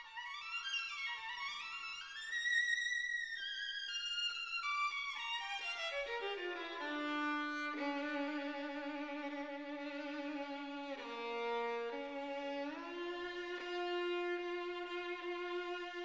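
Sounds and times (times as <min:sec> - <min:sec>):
violin melody: 0:00.0 - 0:16.0.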